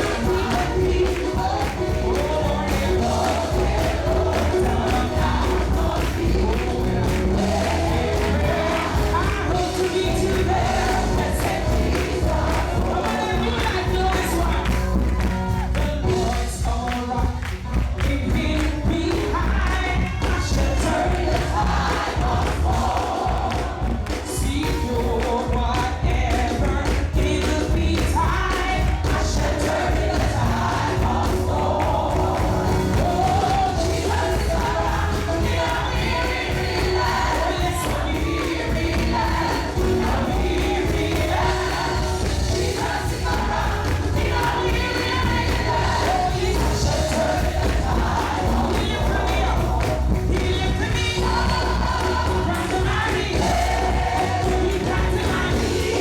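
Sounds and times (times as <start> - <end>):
choir and worship singers: 0.0 - 56.0
congregation singing along: 0.0 - 56.0
full band with strong bass: 0.0 - 56.0.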